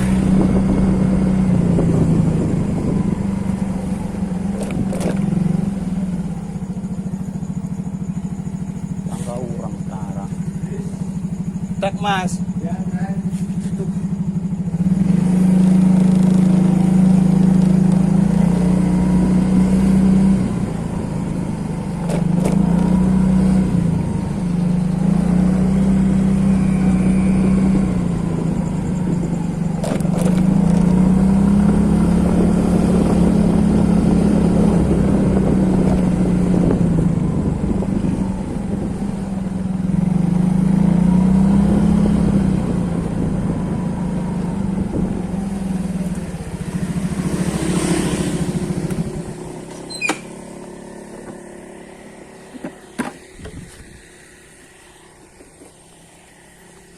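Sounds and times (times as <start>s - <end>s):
engine humming: 0.0s - 56.9s.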